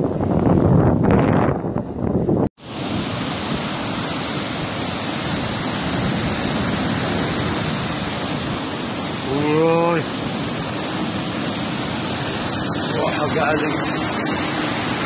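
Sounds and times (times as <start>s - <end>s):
gusty wind on microphone: 0.0s - 15.0s
floodwater rushing: 2.6s - 15.0s.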